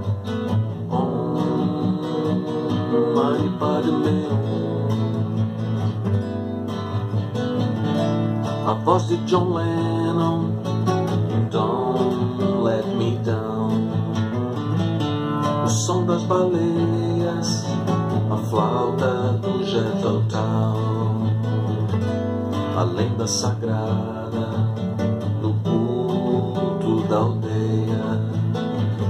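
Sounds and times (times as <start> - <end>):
classical guitar chords: 0.0 - 29.0.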